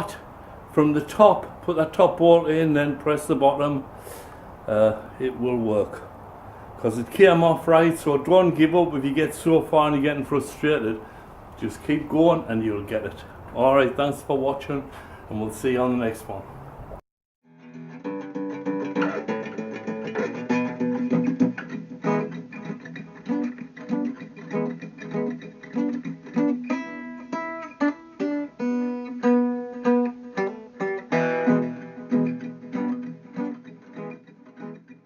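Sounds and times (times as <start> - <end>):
acoustic guitar music: 0.0 - 35.0.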